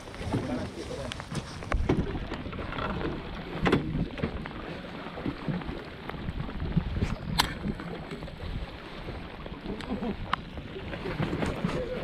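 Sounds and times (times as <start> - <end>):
boat noise: 0.0 - 12.0
wind rumble: 0.0 - 12.0.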